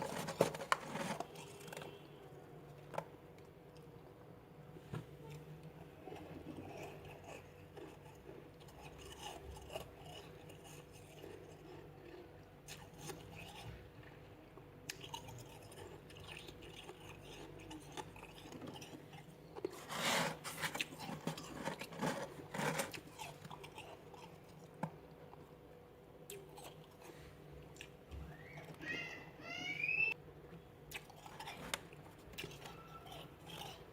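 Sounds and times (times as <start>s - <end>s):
person chewing crunchy frost: 0.0s - 2.1s, 5.2s - 25.6s, 26.3s - 28.1s, 30.9s - 33.9s.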